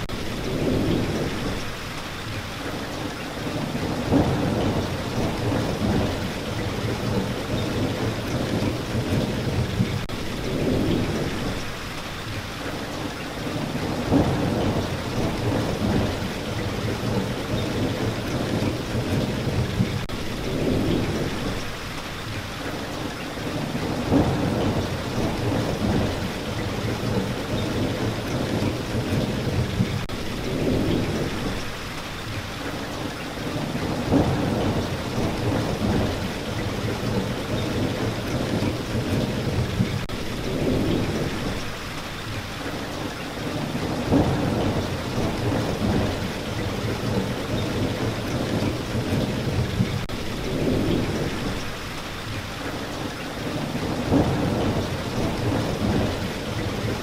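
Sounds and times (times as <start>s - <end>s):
thunder rumbling: 0.0s - 1.8s, 3.4s - 11.8s, 13.5s - 21.8s, 23.5s - 31.8s, 33.4s - 41.8s, 43.4s - 51.8s, 53.4s - 57.0s
heavy rain: 0.0s - 57.0s.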